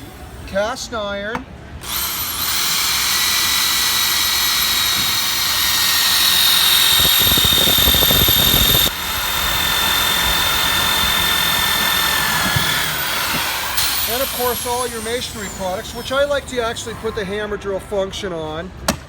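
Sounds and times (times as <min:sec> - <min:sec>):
rough grinding: 0:01.8 - 0:17.1
electric drill cutting metal: 0:01.8 - 0:17.2.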